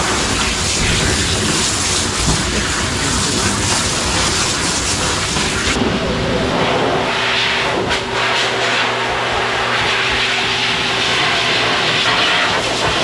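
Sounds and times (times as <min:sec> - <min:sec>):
water spraying: 0:00.0 - 0:13.0.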